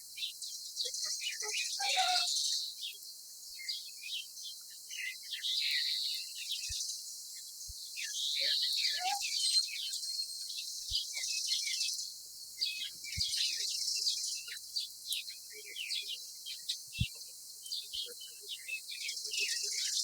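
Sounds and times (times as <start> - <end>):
wild birds chirping: 0.0 - 20.0.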